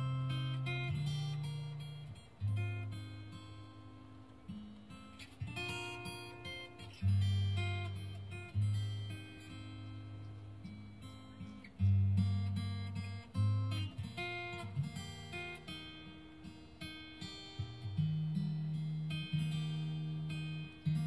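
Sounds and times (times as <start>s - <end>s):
acoustic guitar playing slowly: 0.0s - 21.0s.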